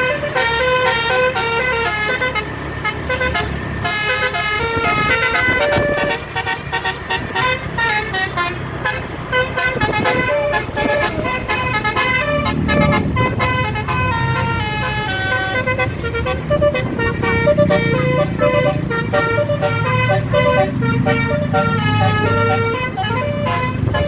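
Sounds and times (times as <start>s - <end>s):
low engine rumble: 0.0s - 24.0s
multi-tone air horn melody: 0.0s - 24.0s.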